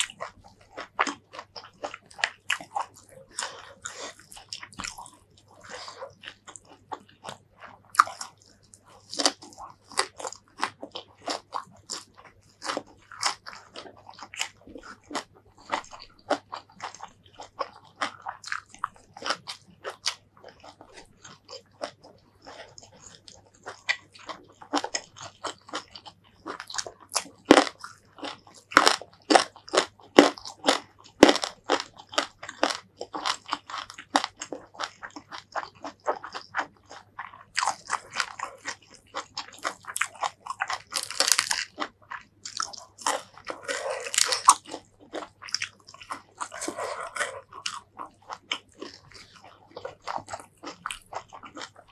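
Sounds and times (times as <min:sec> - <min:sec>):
crunching raw vegetables: 0:00.0 - 0:51.9
wet chewing: 0:00.0 - 0:51.9.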